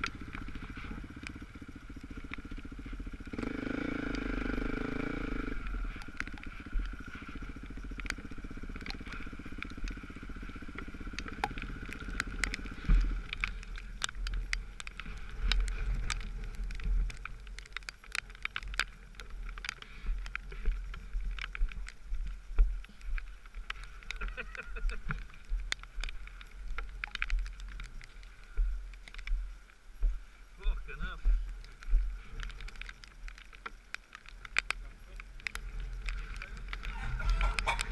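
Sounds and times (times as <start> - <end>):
dirt bike engine running: 0.0 - 37.9
wind rumble on microphone: 0.0 - 37.9.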